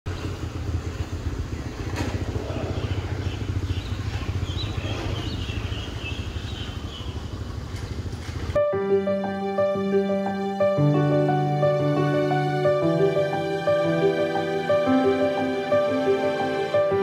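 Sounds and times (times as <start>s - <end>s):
small motor engine rumbling: 0.1s - 17.0s.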